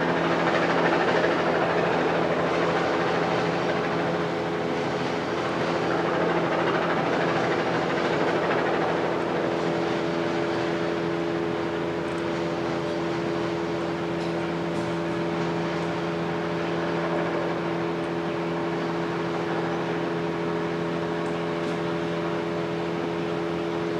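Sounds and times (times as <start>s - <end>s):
idling machinery drone: 0.0s - 23.9s.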